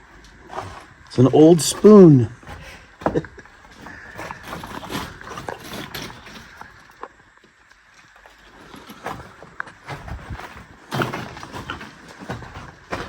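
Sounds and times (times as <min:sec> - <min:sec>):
light knocks clicks and scrapes: 0:00.1 - 0:13.0.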